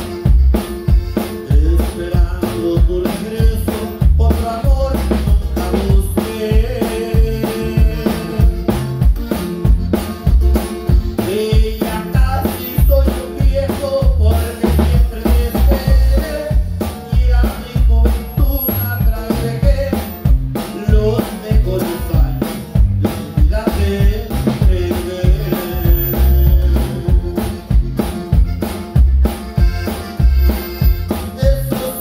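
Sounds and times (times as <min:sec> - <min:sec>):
band playing live: 0:00.0 - 0:32.0
drum kit beat: 0:00.0 - 0:32.0.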